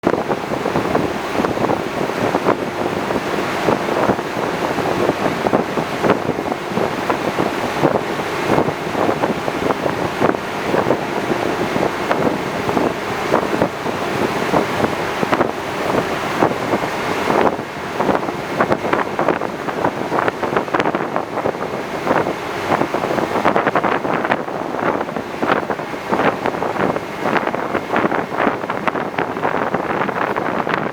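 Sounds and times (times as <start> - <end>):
ferry engine noise: 0.0 - 30.9
rushing water: 0.0 - 30.9
wind buffeting microphone: 0.0 - 30.9.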